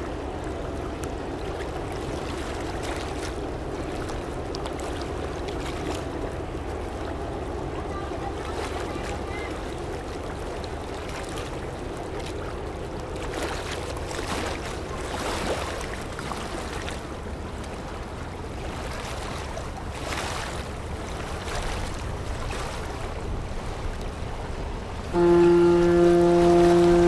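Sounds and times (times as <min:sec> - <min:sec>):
wake waves splashing against riverbank: 0:00.0 - 0:27.0.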